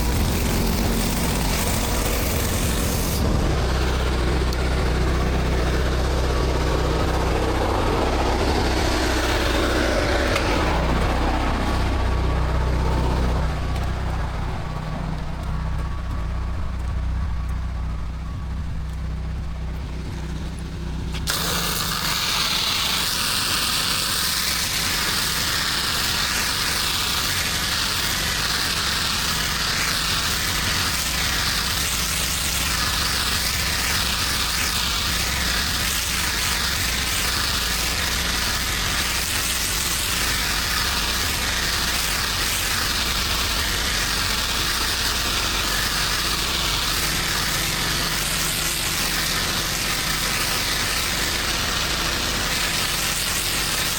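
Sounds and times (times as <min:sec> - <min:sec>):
high-pressure water spray hissing: 0:00.0 - 0:16.3, 0:19.9 - 0:53.9
engine running: 0:00.0 - 0:53.9.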